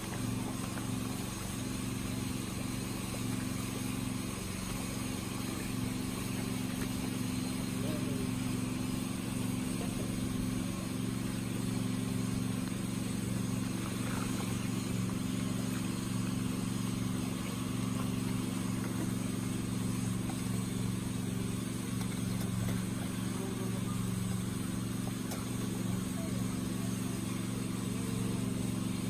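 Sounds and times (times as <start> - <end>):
fish churning water: 0.0 - 29.0
low mechanical hum: 0.0 - 29.0.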